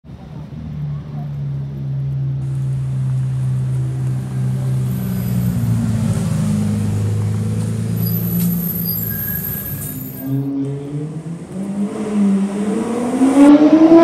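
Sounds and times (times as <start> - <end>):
car engine driving slowly past: 0.1 - 13.2.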